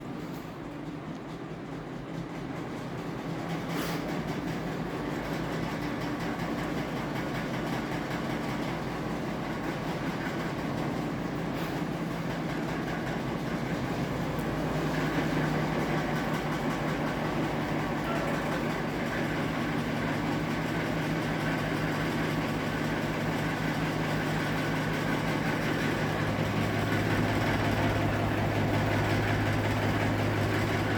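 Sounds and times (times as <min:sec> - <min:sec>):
ceiling fan droning: 0:00.0 - 0:30.9.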